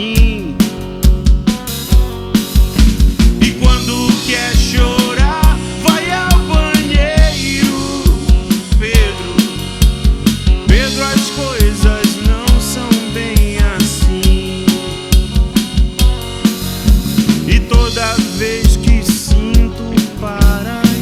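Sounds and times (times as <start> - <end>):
bass: 0.0 - 21.0
bending melodic lead line: 0.0 - 21.0
drum kit beat: 0.0 - 21.0.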